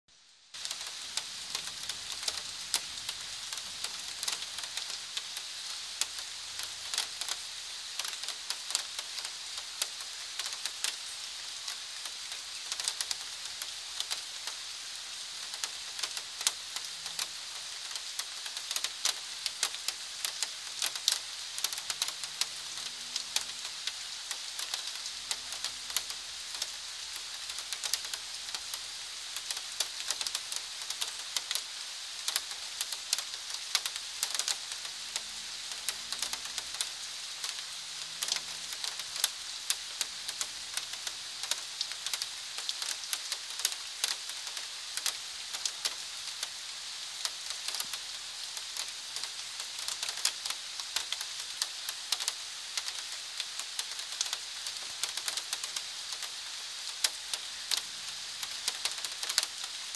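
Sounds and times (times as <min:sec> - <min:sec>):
rain hissing: 0:00.1 - 0:59.9.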